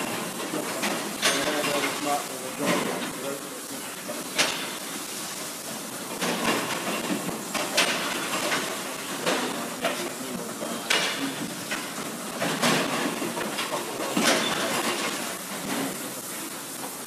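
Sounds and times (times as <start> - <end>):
milking machine hissing air bursts: 0.0 - 17.0
steady mechanical background noise: 0.0 - 17.0.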